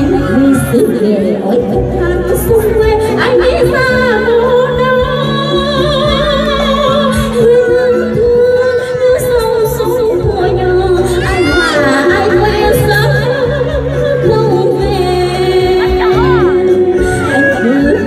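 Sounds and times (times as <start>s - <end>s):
instrumental backing music: 0.0s - 18.0s
woman singing into microphone: 0.0s - 18.0s.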